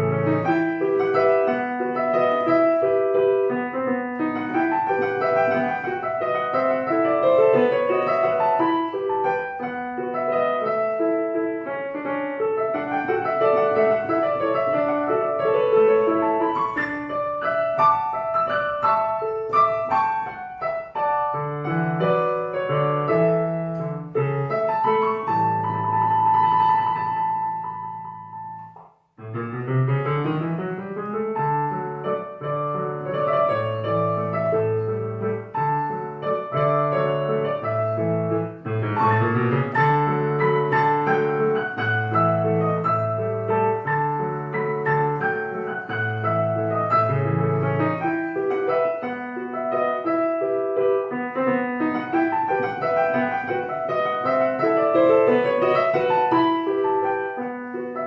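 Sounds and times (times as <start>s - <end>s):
piano melody: 0.0s - 58.0s
repeated low piano bass notes: 0.0s - 58.0s.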